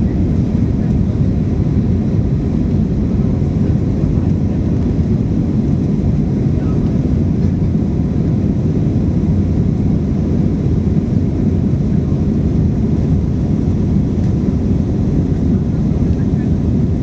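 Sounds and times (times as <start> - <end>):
jet engines at climb power: 0.0 - 17.0.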